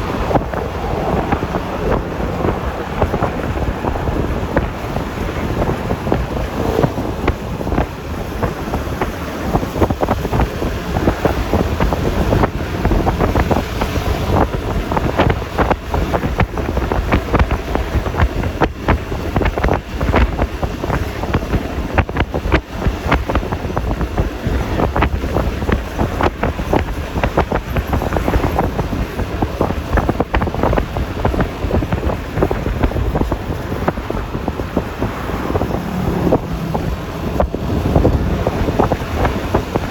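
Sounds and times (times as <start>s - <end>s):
road noise: 0.0s - 39.9s
scooter engine rumble: 0.0s - 39.9s
wind buffeting microphone: 0.0s - 39.9s.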